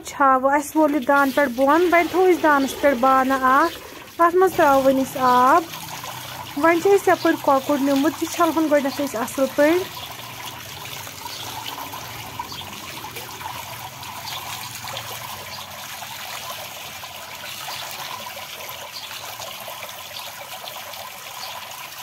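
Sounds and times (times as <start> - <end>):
running water splashing: 0.0 - 22.0.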